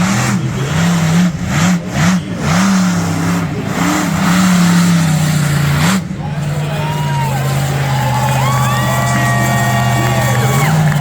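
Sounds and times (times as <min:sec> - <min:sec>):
large vehicle engine revving: 0:00.0 - 0:11.0.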